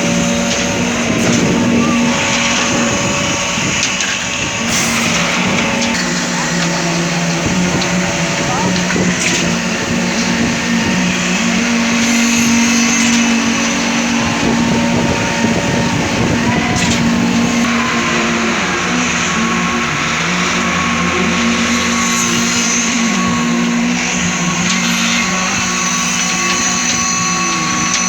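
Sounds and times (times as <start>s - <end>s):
concrete machinery droning: 0.0s - 28.0s.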